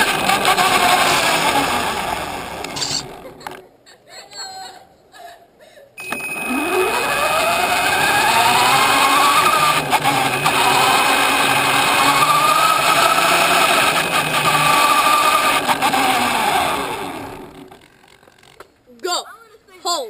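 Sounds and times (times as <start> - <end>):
toy car motor whine: 0.0 - 3.5, 6.0 - 18.6
tyres rushing on pavement: 0.0 - 3.6, 6.2 - 18.8.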